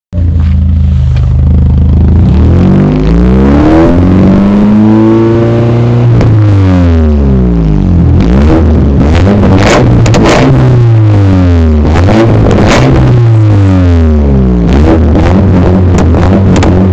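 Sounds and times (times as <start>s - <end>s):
car engine revving: 0.2s - 16.9s.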